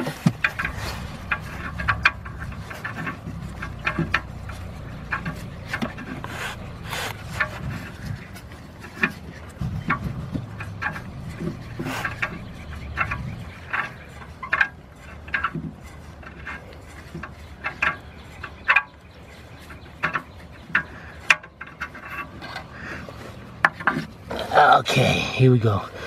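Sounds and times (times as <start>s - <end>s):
metal threads squeaking and scraping: 0.0s - 25.8s.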